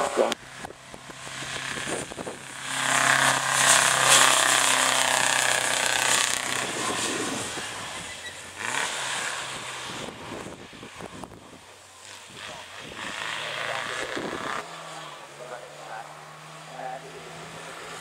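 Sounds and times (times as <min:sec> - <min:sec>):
racing car engine passing: 0:00.0 - 0:18.0.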